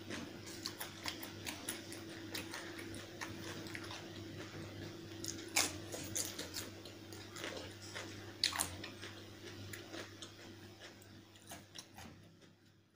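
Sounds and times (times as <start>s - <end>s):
close chewing mouth sounds: 0.0s - 12.6s
faint steady hum: 0.0s - 12.9s.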